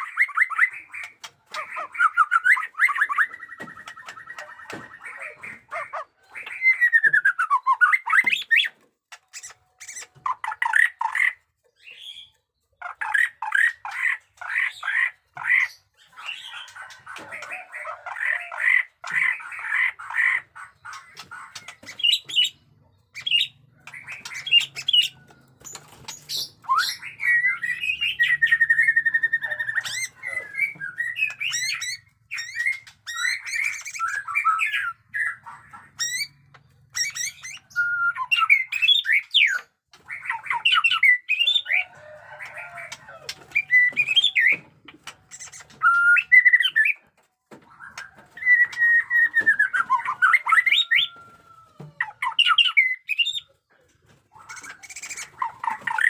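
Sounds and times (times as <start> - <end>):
bird singing harsh rattling chatter: 0.0 - 51.2, 52.0 - 56.0.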